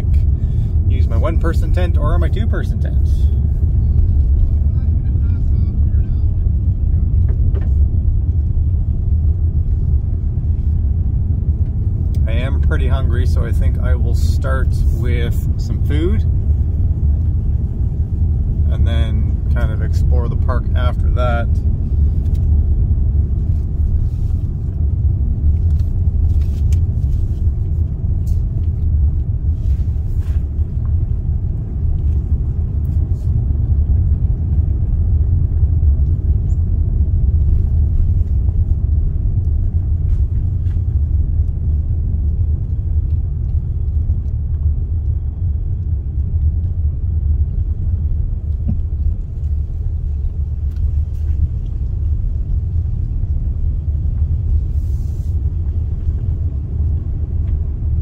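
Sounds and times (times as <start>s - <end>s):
truck engine rumble from inside cab: 0.0s - 58.0s.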